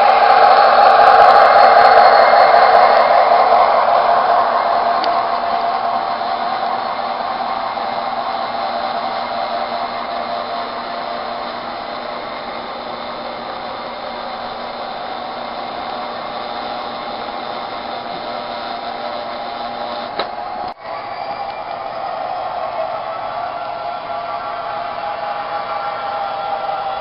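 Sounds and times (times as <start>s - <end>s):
model train cars rolling on track: 0.0s - 27.0s.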